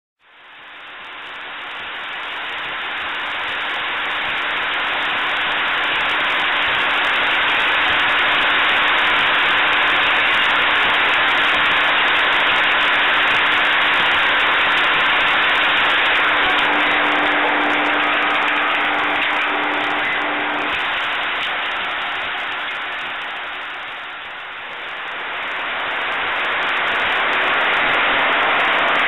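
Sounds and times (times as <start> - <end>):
faint steady hum: 0.2 - 29.0
machine mechanical din: 3.6 - 29.0.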